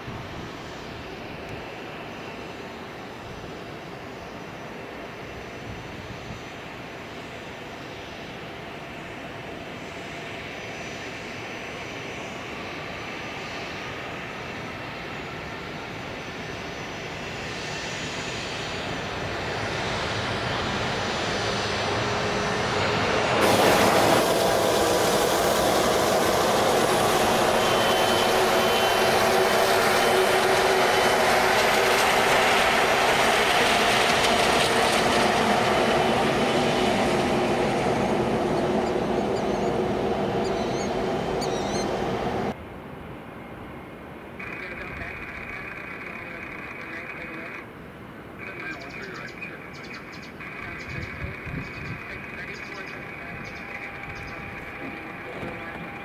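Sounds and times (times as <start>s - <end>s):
jet engine rushing: 0.0s - 42.6s, 43.6s - 56.0s.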